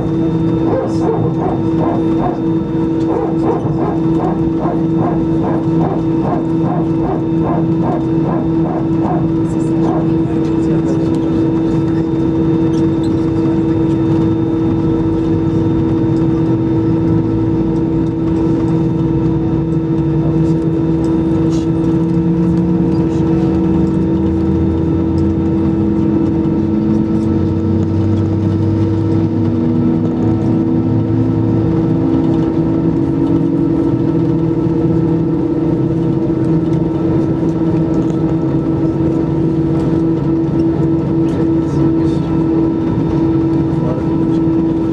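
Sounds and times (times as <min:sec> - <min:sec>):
jet engines whining: 0:00.0 - 0:44.9.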